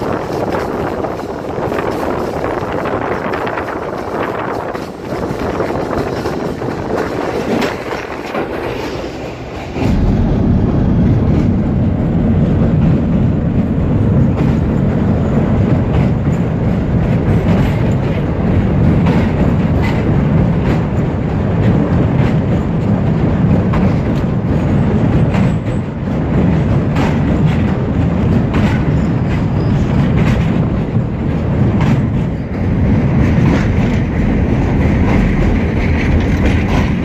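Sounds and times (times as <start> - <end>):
clicks of train wheels: 0.0 - 10.2, 11.1 - 37.0
train wheels rumbling on bridge: 0.0 - 37.0.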